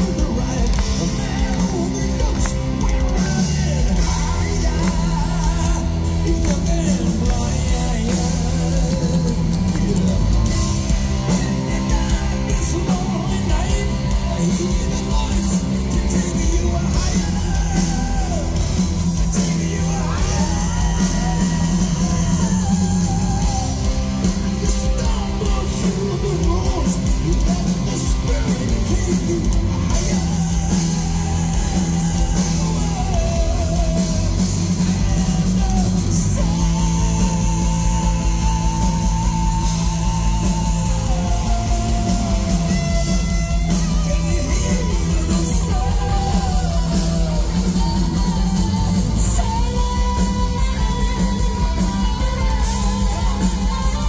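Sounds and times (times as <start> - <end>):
distorted electric guitars: 0.0 - 54.0
drums: 0.0 - 54.0
keyboards: 0.0 - 54.0
man singing long notes: 0.0 - 54.0.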